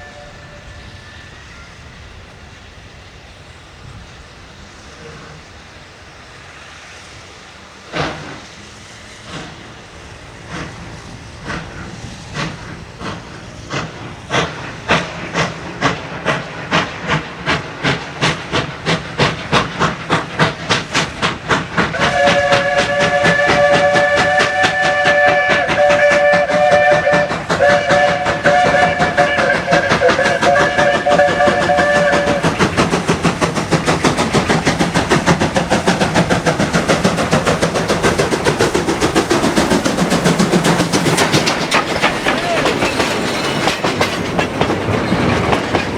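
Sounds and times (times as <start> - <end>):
steam locomotive exhaust chuffs: 0.0 - 45.9.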